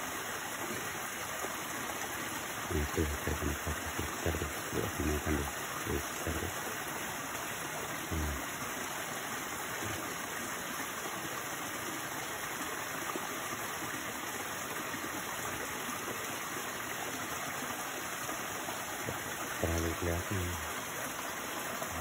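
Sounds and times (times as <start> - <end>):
stream water running into pool: 0.0 - 22.0.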